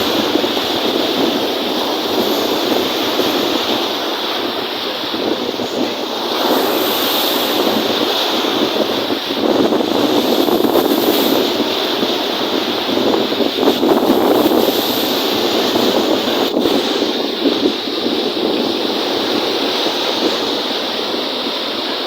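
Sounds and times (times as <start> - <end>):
lake waves breaking: 0.0 - 22.0
wind buffeting microphone: 0.0 - 22.0.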